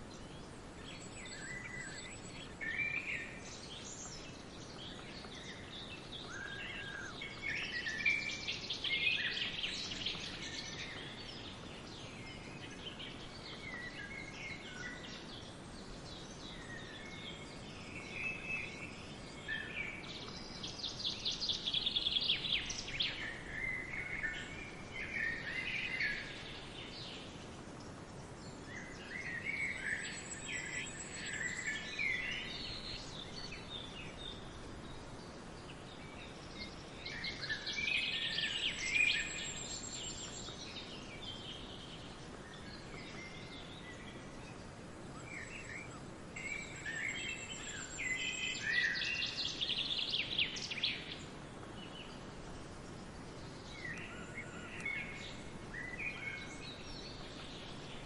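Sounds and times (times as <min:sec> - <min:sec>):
songbirds chirping and twittering: 0:00.0 - 0:58.0
steady background hiss: 0:00.0 - 0:58.0.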